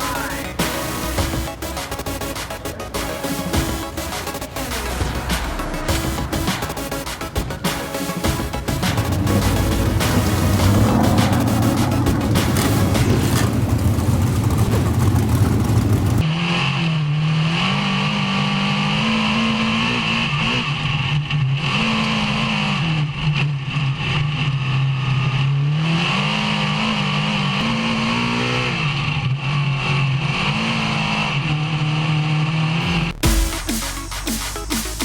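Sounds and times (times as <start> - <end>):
dense rough engine roar: 0.0 - 35.0
race car engine revving: 0.0 - 35.0.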